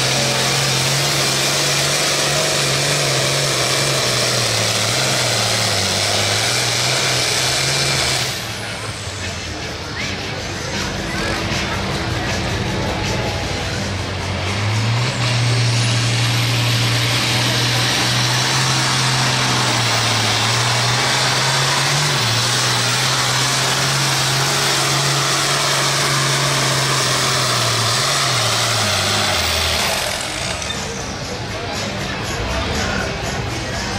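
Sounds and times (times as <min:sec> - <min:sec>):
tractor diesel engine drone: 0:00.0 - 0:33.9.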